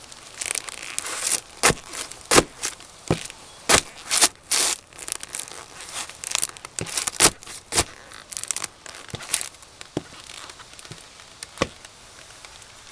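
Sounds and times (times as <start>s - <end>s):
boots crushing cardboard: 0.0s - 11.9s.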